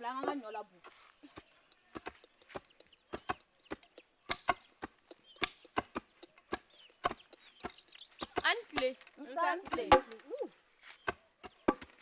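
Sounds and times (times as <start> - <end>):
chickens clucking: 1.2 - 11.8.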